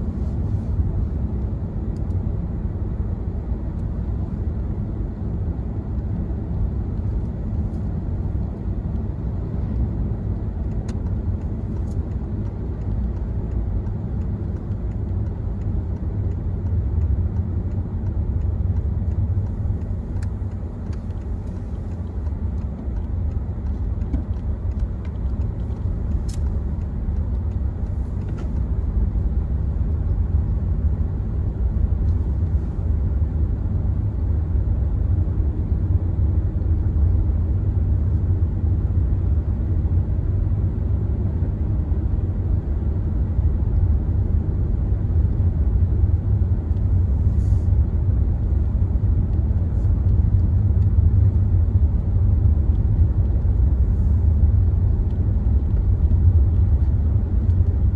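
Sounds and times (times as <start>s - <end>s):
car tyres and engine rumble: 0.0s - 57.9s.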